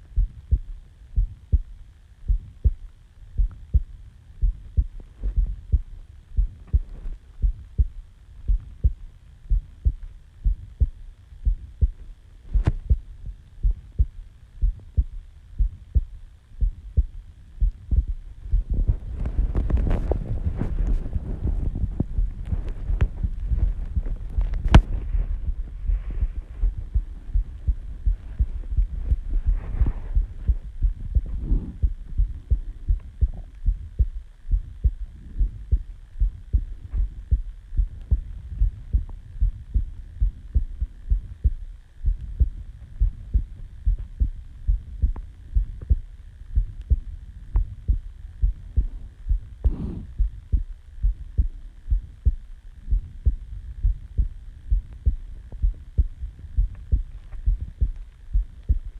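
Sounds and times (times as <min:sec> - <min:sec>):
heartbeat thumps: 0:00.0 - 0:58.9.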